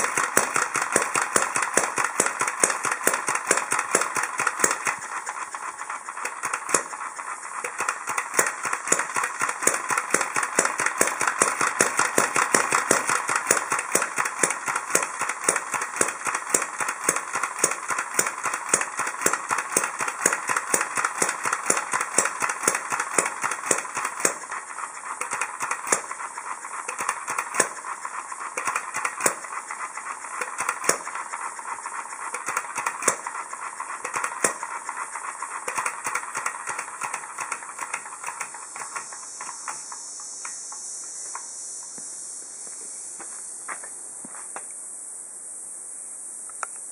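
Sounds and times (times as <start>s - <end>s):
stationary engine clicking: 0.0s - 41.5s.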